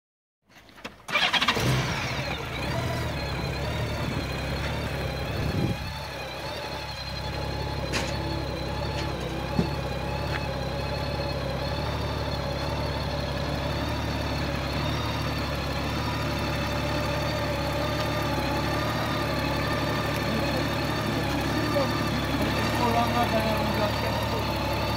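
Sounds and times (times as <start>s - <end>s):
motorcycle engine starting and idling: 0.5s - 24.9s.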